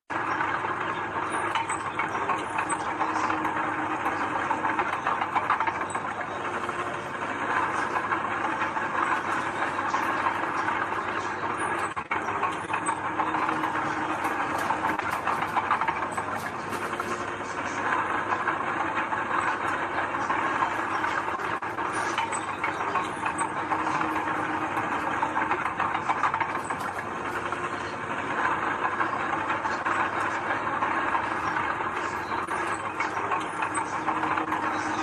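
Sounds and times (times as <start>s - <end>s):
metallic rattling and clanking: 0.4s - 35.0s.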